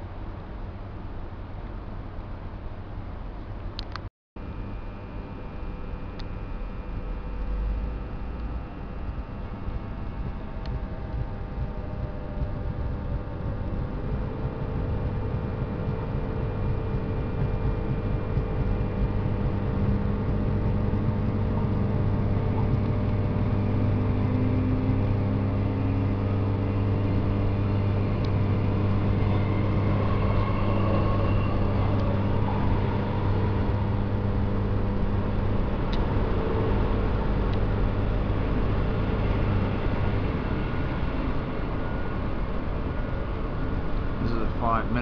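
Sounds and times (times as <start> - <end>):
train hum and rumble: 0.0 - 45.0
motor whine rising: 4.4 - 45.0.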